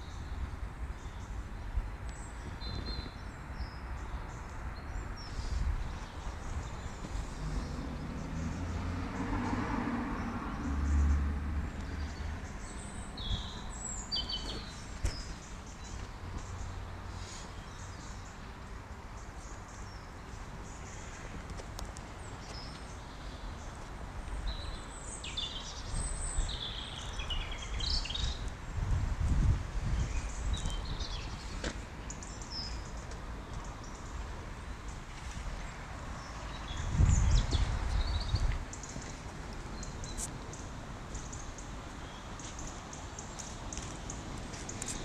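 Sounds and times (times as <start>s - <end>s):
small birds chirping: 0.0s - 9.4s, 10.2s - 28.6s, 29.9s - 45.0s.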